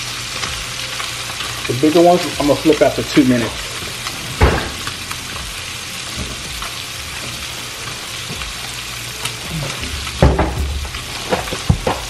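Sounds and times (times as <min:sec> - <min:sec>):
fish frying in butter: 0:00.0 - 0:12.0.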